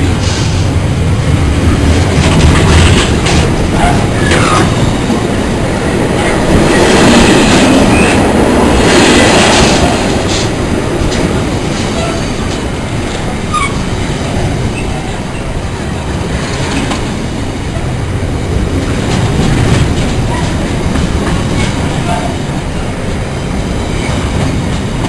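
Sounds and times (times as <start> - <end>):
train wheels clattering: 0.0 - 25.0.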